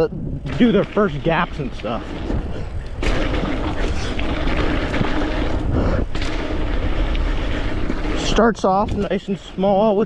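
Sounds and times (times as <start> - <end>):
wind buffeting microphone: 0.0 - 10.0
bike rolling on dirt trail: 0.2 - 10.0.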